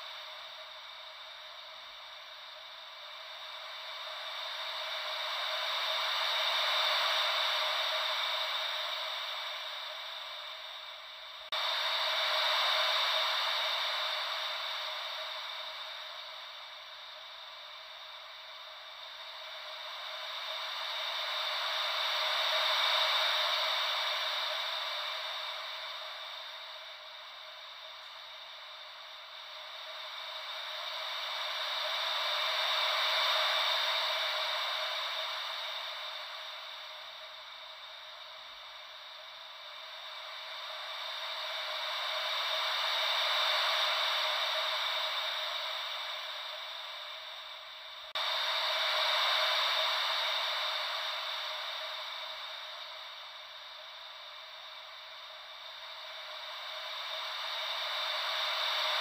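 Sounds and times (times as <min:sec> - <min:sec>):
wave-like white noise hiss: 0:00.0 - 0:59.0.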